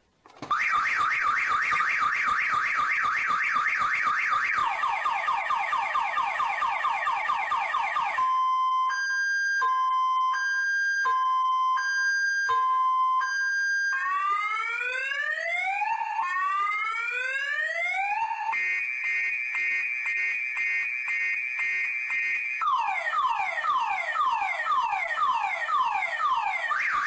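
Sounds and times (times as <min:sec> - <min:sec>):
car alarm siren: 0:00.5 - 0:27.0.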